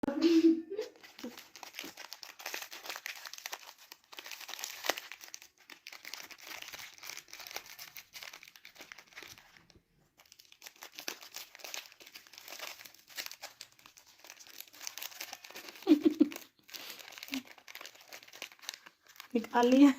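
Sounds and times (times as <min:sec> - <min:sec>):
parrot tearing crinkly material: 0:01.0 - 0:19.9.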